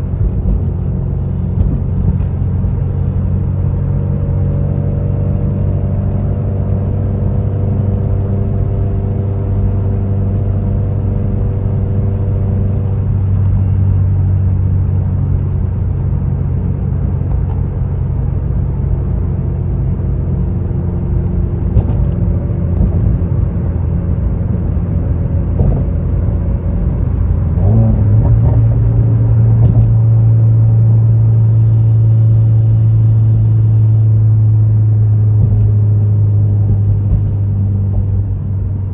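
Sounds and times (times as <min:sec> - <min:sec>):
car engine cruising: 0:00.0 - 0:38.9
road rumble: 0:00.0 - 0:38.9.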